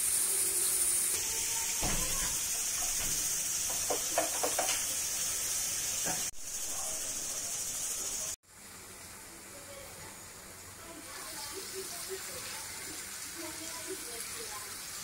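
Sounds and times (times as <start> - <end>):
fish frying with sizzling hiss: 0.0 - 15.0.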